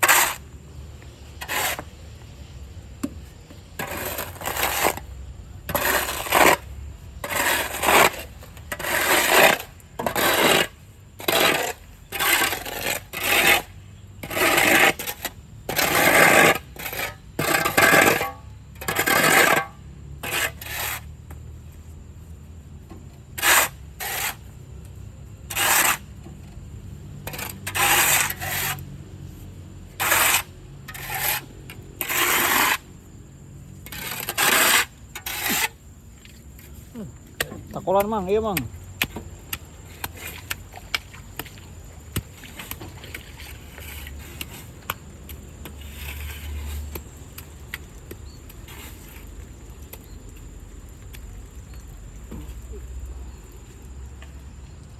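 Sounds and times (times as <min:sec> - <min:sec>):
shovel scraping wet sand: 0:00.0 - 0:02.6, 0:03.3 - 0:21.4, 0:23.0 - 0:51.7.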